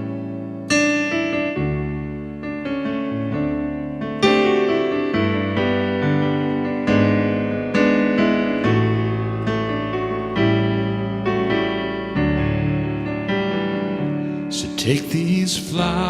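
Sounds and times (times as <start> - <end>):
slow gentle piano chords: 0.0 - 16.0.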